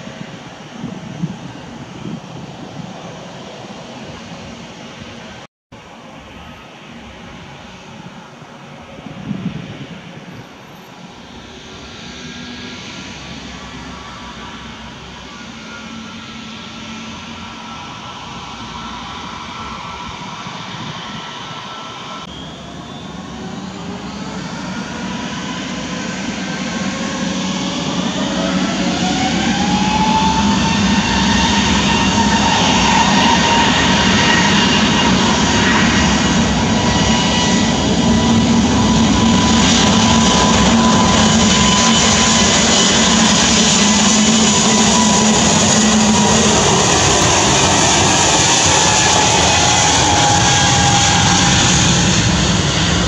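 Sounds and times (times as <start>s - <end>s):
jet engines spooling up: 0.0s - 53.0s.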